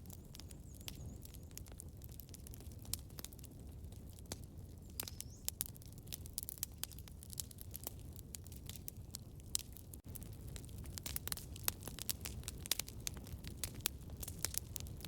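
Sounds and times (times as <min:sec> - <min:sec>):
campfire crackling: 0:00.0 - 0:15.0
low rumble of burning wood: 0:00.0 - 0:15.0.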